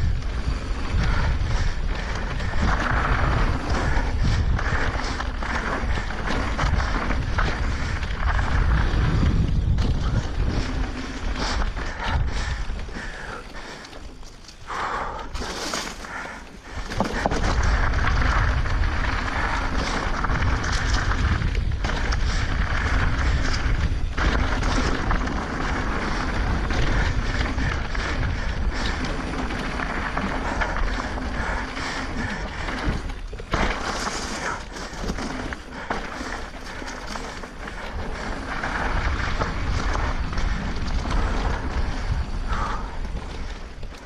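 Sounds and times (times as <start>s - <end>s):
rolling and rattling noise: 0.0s - 44.0s
wind rumbling on microphone: 0.0s - 44.0s.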